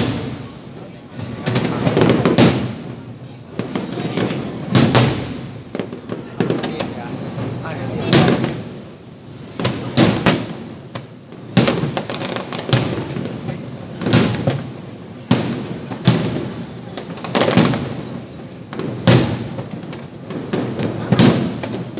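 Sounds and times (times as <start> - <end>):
fireworks bangs with rumbling echo: 0.0 - 21.9
fireworks crackling: 0.0 - 21.9.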